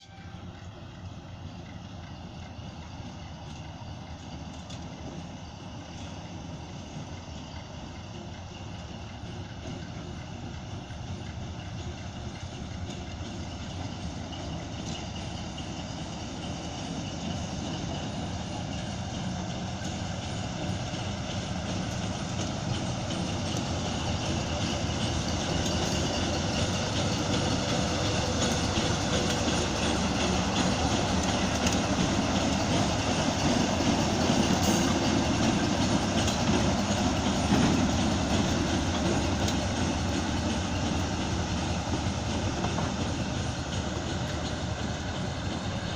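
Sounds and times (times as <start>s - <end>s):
diesel locomotive engine running: 0.0s - 45.9s.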